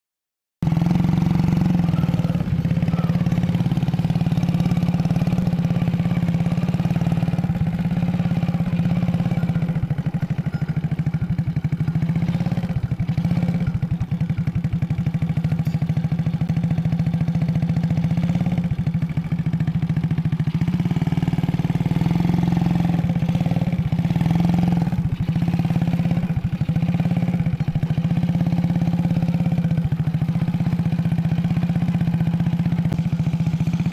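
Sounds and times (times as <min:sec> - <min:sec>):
engine humming with fast pulse: 0:00.6 - 0:33.9.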